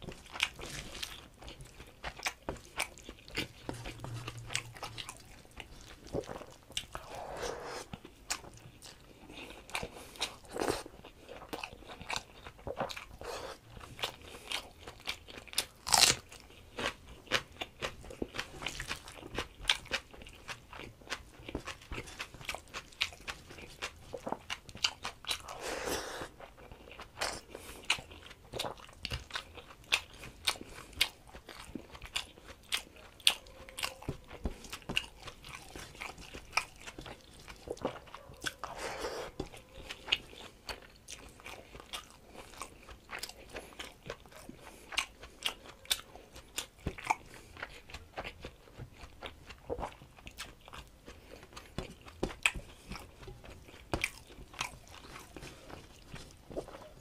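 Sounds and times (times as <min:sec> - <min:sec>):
man chewing with wet mouth clicks: 0:00.0 - 0:25.6, 0:26.2 - 0:57.0.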